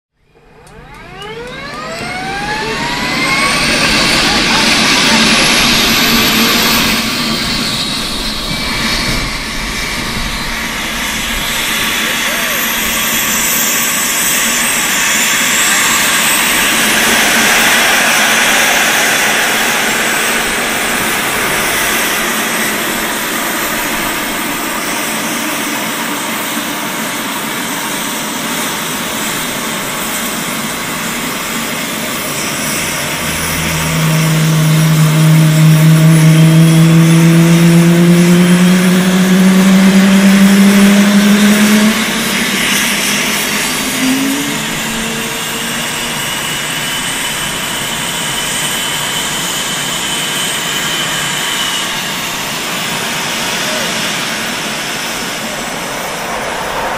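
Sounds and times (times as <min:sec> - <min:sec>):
engine spooling up hum: 0:00.2 - 0:56.9
jet engine turbine whine: 0:00.2 - 0:56.9.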